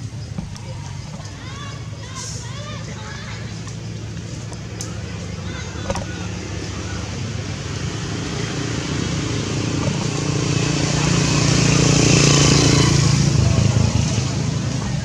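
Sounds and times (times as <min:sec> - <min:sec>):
passing vehicle engine: 0:00.0 - 0:15.0.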